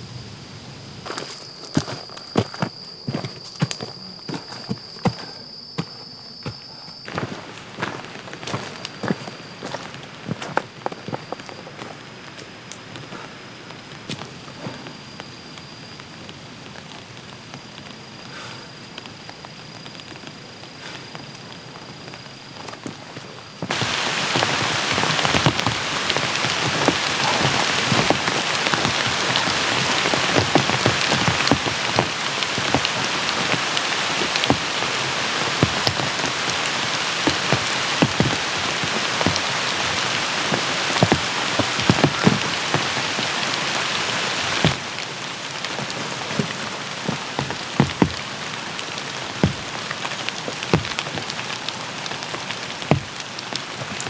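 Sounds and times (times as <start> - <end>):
heavy rain pouring: 7.2 - 54.0.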